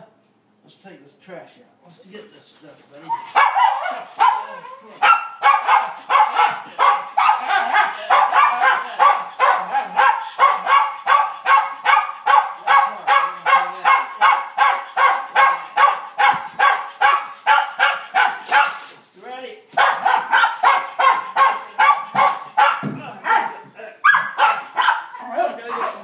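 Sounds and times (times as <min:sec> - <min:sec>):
dog barking: 0:03.0 - 0:18.9, 0:19.8 - 0:26.0.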